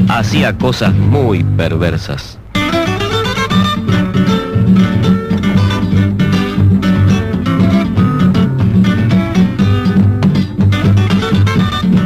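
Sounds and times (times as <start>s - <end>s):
steady bass line: 0.0s - 2.0s, 2.6s - 12.0s
guitars strumming and plucking: 0.0s - 12.0s.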